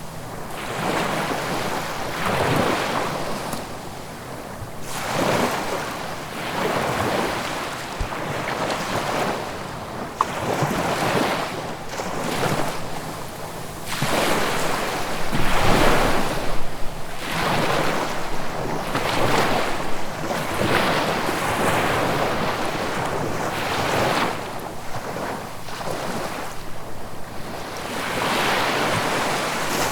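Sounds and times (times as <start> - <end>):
ocean waves breaking on shore: 0.0 - 29.9.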